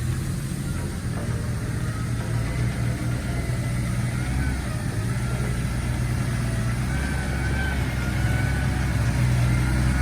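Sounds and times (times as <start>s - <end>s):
vehicle engine running low revs: 0.0s - 10.0s.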